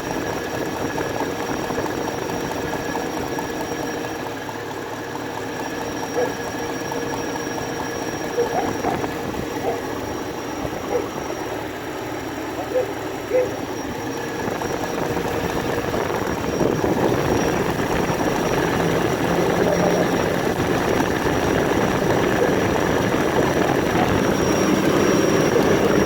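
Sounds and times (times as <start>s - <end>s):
engine ticking and knocking: 0.0s - 26.0s.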